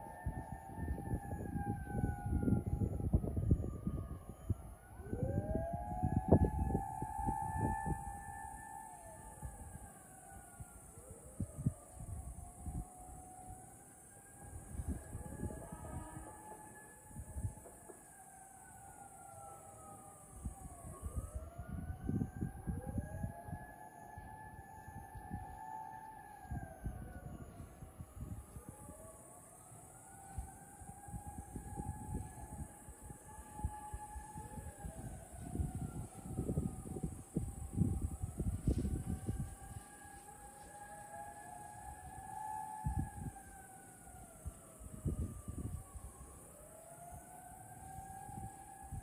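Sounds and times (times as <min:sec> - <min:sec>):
fire engine sirens wailing: 0:00.0 - 0:49.0.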